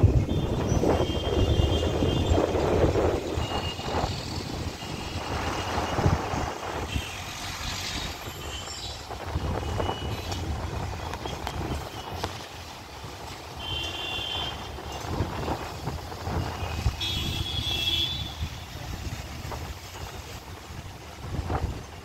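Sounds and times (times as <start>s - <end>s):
wind rumbling on microphone: 0.0s - 13.7s, 14.4s - 22.0s
road traffic hum: 0.0s - 22.0s.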